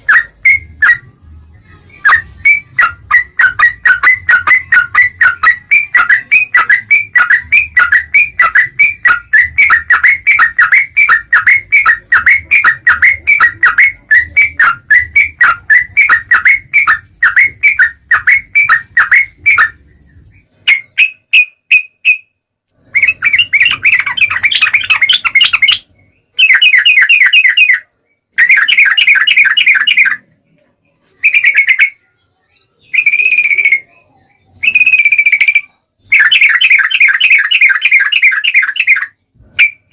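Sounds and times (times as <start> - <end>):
bird chattering: 0.0 - 1.1, 1.9 - 30.3, 31.1 - 39.9
bird chirping: 0.0 - 39.9.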